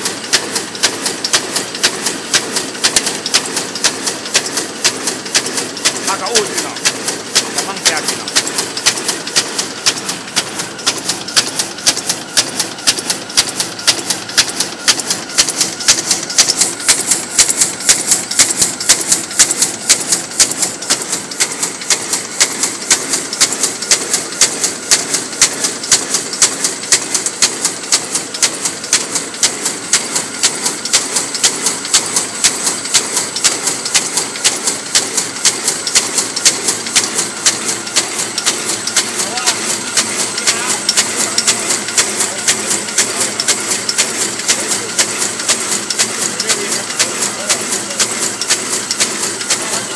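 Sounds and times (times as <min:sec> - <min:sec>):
machine clacking rapidly: 0:00.0 - 0:49.9.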